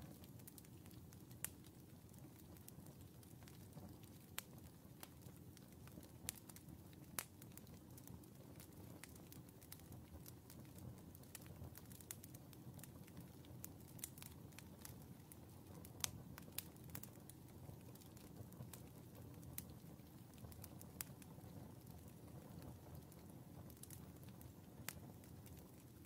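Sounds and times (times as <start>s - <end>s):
embers crackling and popping: 0.0s - 26.0s.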